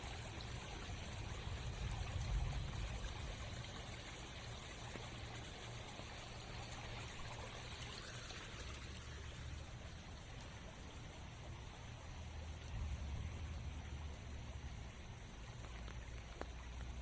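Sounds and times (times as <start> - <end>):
rain: 0.0 - 17.0
running water: 0.0 - 17.0.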